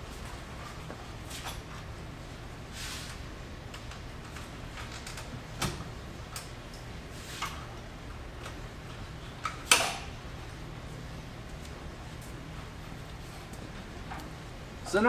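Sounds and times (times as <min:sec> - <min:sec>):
low steady shop hum: 0:00.0 - 0:15.0.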